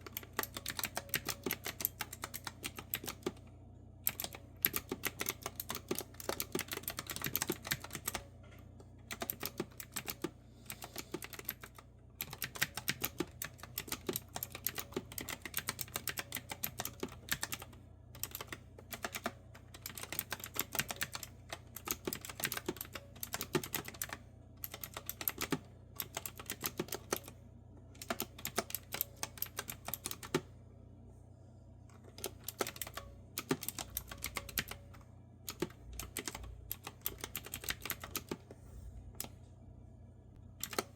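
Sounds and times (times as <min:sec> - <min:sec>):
clicky keyboard typing: 0:00.0 - 0:03.4, 0:04.0 - 0:27.4, 0:28.0 - 0:30.5, 0:32.0 - 0:38.4, 0:40.5 - 0:40.9.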